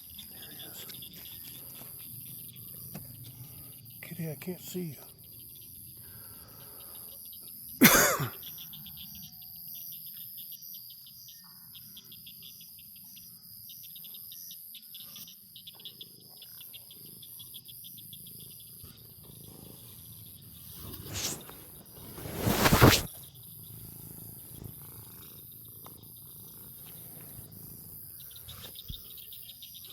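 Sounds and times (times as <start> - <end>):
insects chirping trills: 0.0 - 29.9.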